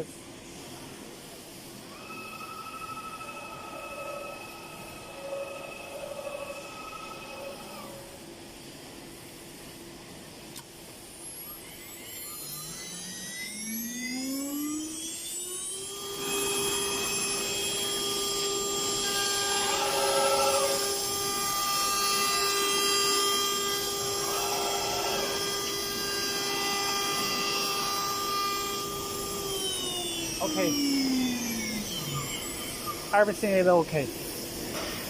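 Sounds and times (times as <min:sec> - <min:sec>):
router spindle whine: 0:01.8 - 0:08.3, 0:11.1 - 0:34.8.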